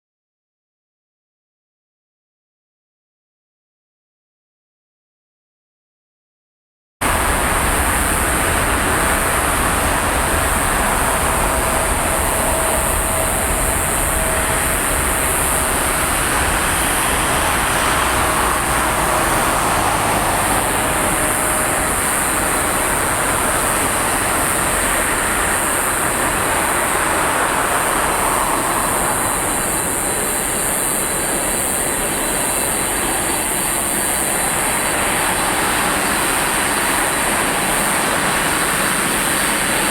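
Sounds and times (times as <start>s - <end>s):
jet engines running: 7.0s - 39.9s.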